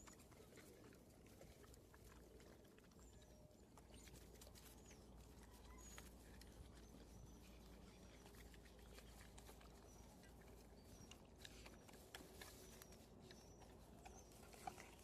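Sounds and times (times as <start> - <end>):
dog eating crunching: 0.0 - 15.0
low background hum: 0.0 - 15.0.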